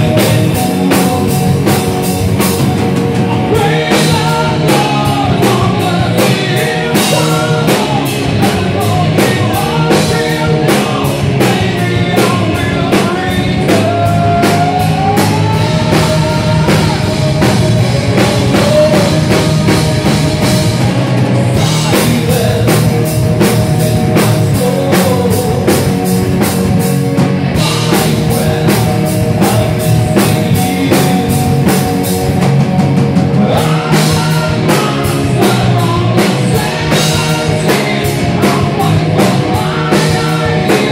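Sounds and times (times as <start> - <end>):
person singing: 0.0 - 2.2, 3.2 - 26.5, 27.5 - 32.2, 33.3 - 40.9
metal band playing live: 0.0 - 40.9.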